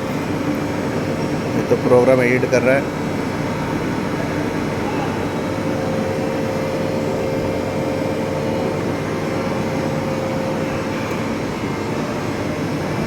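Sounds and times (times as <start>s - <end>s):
machine shop hum: 0.0s - 13.0s.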